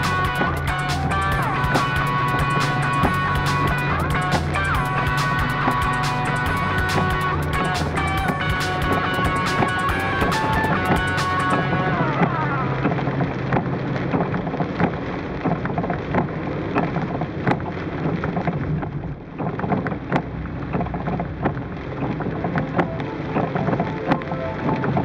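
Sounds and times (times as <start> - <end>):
heavy rain on car roof: 0.0 - 25.0
tyres on wet road: 0.0 - 25.0.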